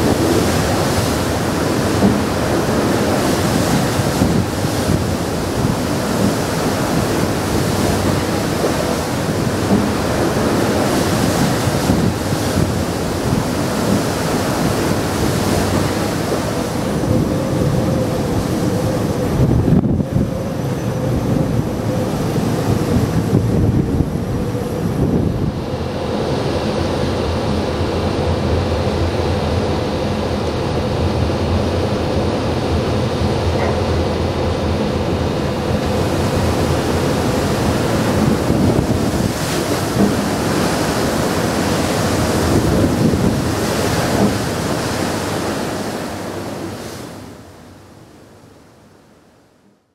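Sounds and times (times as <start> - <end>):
wind buffeting microphone: 0.0 - 47.2
ship engines humming: 0.0 - 49.0
sea water rushing along hull: 0.0 - 49.9.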